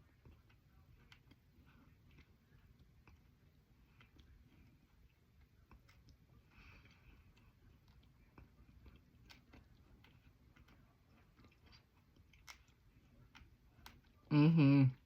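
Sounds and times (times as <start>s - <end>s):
crunching clicks of chewing clay: 0.0s - 14.3s.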